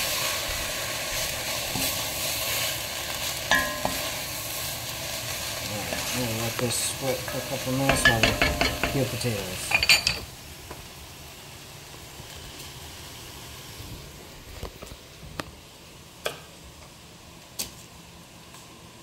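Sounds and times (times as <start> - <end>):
low kitchen hiss: 0.0 - 19.0.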